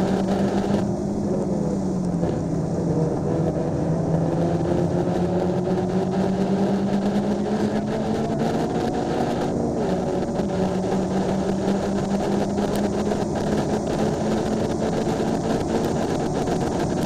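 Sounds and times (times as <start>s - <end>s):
car engine running hard: 0.0s - 17.0s
road and wind noise: 0.0s - 17.0s.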